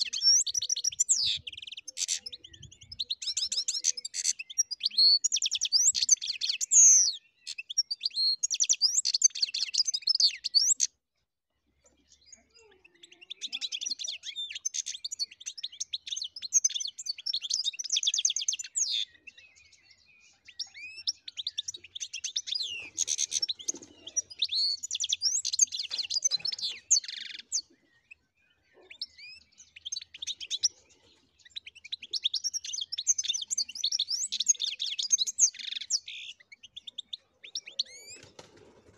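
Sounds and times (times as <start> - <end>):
goldfinch singing: 0.0 - 10.9, 11.9 - 38.9.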